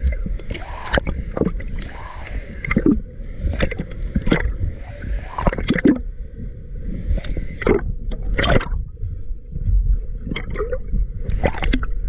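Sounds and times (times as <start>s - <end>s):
low rumble of rushing water: 0.0s - 12.0s
water splashing and gurgling: 0.0s - 12.0s.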